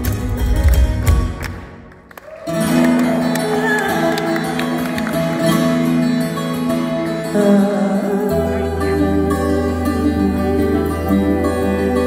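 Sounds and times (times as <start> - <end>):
guitars playing held notes: 0.0 - 12.0.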